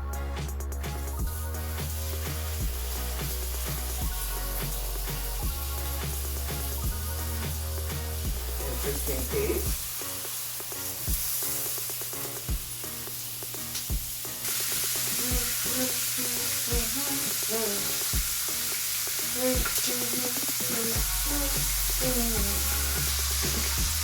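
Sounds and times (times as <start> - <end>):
background music with soft beat: 0.0 - 24.0
bacon sizzling in a pan: 1.0 - 24.0.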